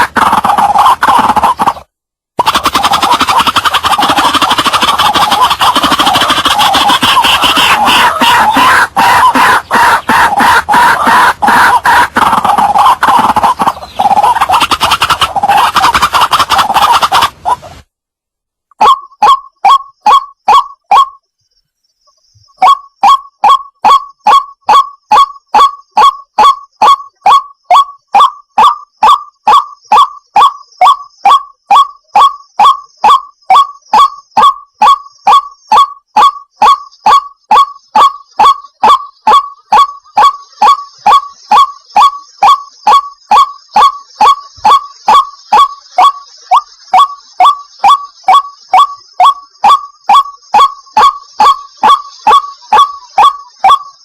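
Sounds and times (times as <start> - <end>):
waterhen calling: 0.0 - 17.9, 18.8 - 21.2, 22.6 - 54.0.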